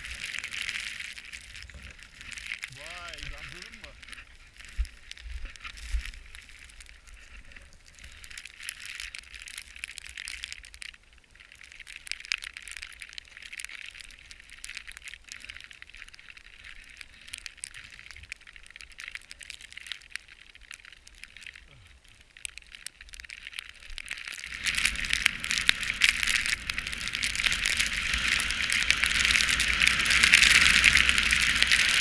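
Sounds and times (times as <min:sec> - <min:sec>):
skis sliding over snow: 0:00.0 - 0:32.0.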